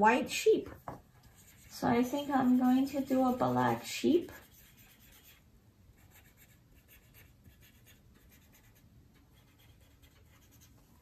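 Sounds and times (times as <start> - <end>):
marker scratching on paper: 0.4 - 11.0.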